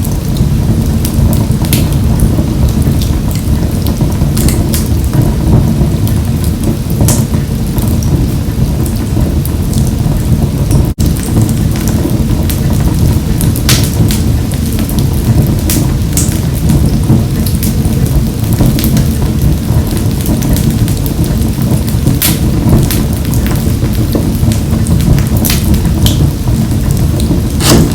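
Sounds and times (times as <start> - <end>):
wood fire crackling in a stove: 0.0 - 27.9.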